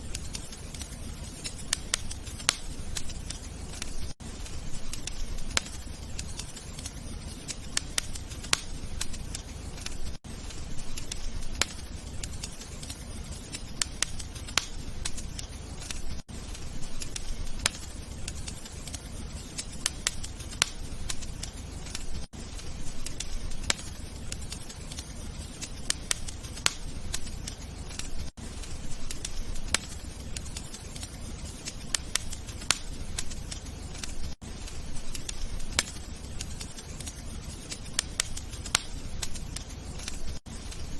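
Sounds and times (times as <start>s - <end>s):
crackling wood fire: 0.0s - 40.9s.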